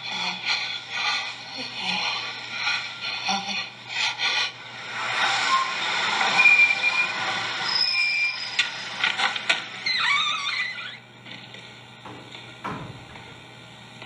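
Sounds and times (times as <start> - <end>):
film soundtrack over speakers: 0.0 - 14.0.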